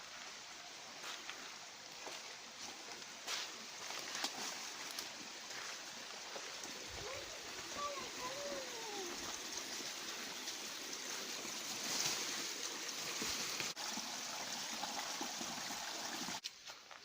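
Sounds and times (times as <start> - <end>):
stream water flowing: 0.0 - 16.4.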